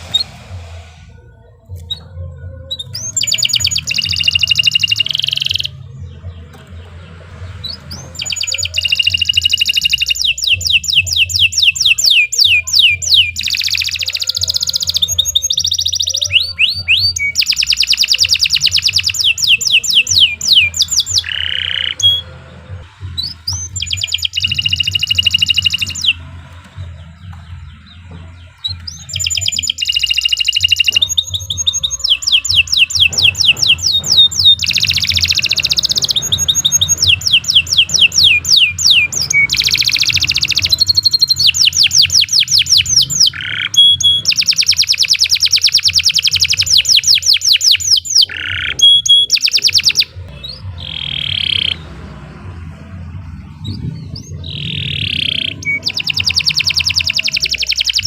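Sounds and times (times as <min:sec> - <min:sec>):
canary singing trills and chirps: 0:01.2 - 0:58.0.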